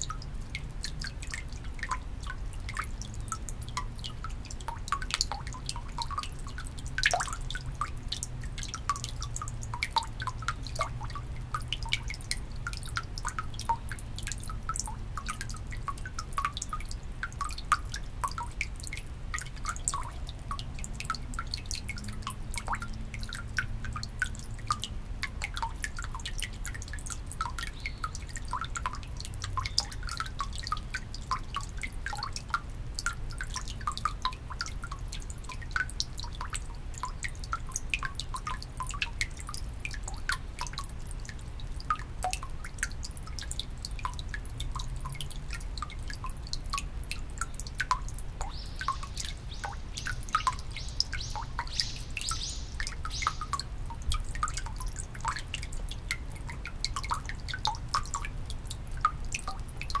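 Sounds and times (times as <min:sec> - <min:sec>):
water dripping and splashing: 0:00.0 - 1:00.0.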